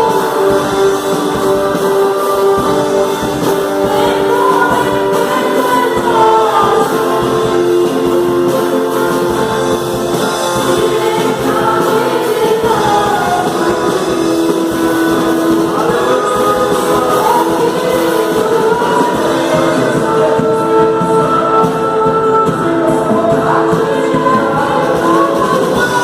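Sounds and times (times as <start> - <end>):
gospel singing with instruments: 0.0 - 26.0.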